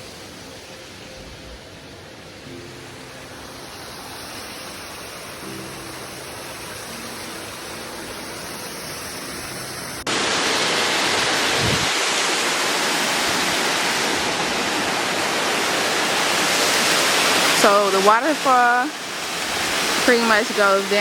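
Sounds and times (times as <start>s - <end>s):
waterfall rushing water: 0.0s - 21.0s.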